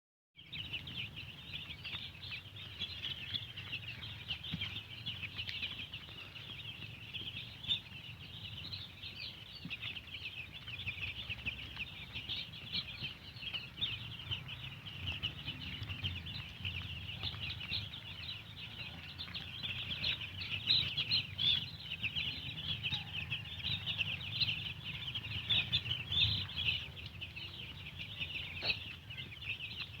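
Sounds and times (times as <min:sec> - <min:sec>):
flock of chickens calling: 0:00.4 - 0:30.0.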